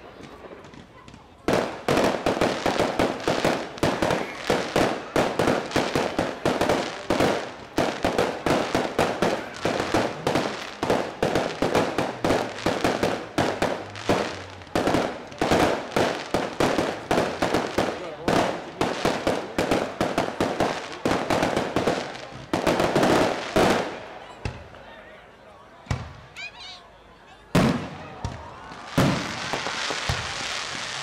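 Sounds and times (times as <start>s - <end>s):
fireworks bangs and crackles: 0.0s - 24.9s, 25.8s - 26.4s, 27.5s - 31.0s.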